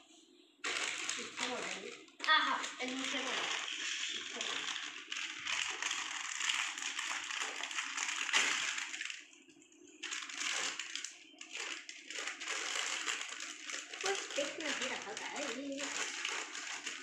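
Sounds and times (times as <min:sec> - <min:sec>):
plastic snack packet crinkling: 0:00.6 - 0:17.0.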